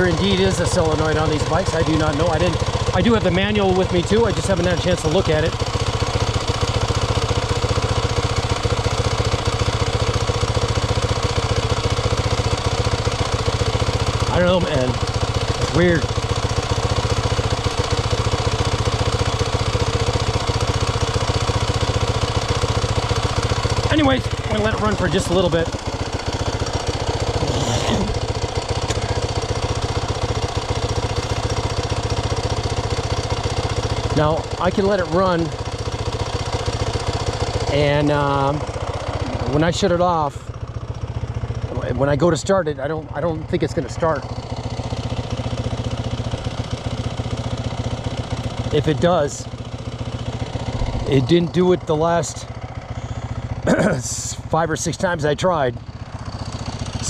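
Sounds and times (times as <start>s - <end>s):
motorbike engine idling: 0.0s - 57.0s.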